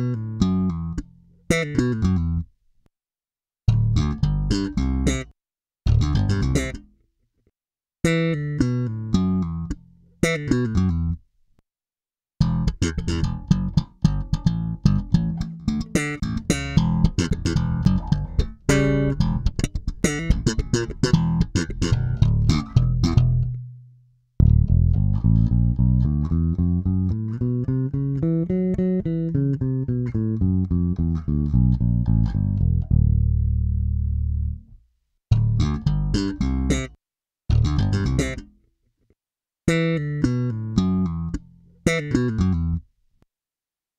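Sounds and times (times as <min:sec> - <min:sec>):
electric bass notes: 0:00.0 - 0:02.5, 0:03.7 - 0:05.3, 0:05.9 - 0:06.8, 0:08.0 - 0:11.2, 0:12.4 - 0:38.5, 0:39.7 - 0:42.9.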